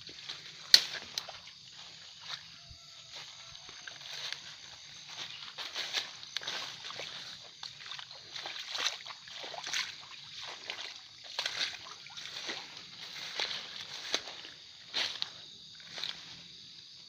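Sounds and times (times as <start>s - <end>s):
footsteps on wet grass and leaves: 0.0s - 17.0s.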